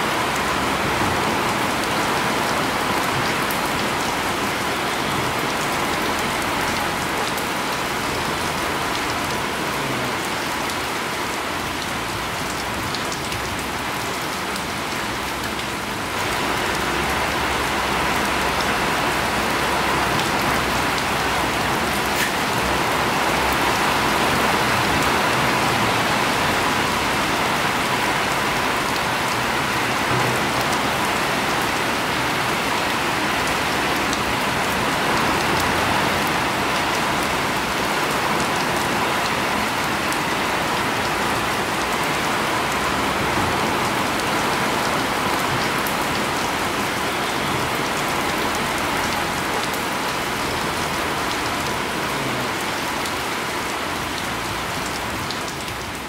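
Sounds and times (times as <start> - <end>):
heavy rain splashing: 0.0 - 56.0.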